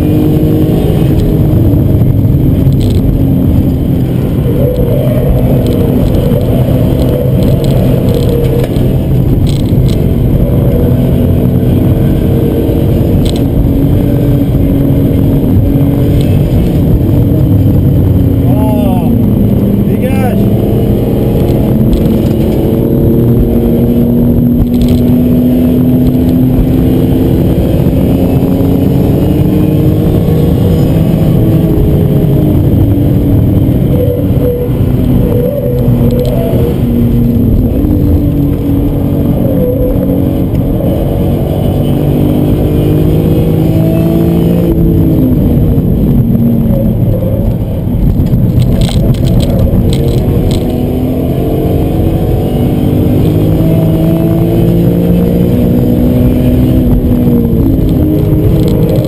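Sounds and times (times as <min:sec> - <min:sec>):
car engine running hard: 0:00.0 - 0:59.0
tyre and road noise: 0:00.0 - 0:59.0.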